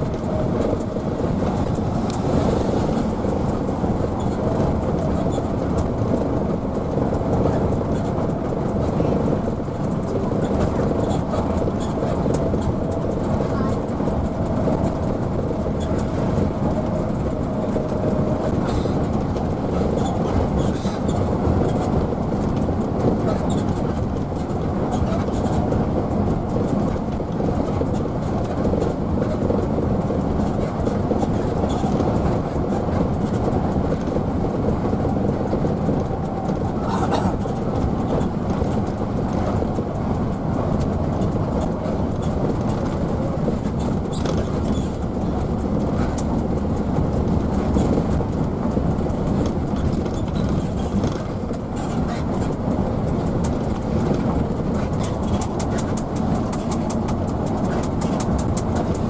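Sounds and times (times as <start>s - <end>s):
bus diesel engine drone: 0.0s - 59.0s
road noise: 0.0s - 59.0s.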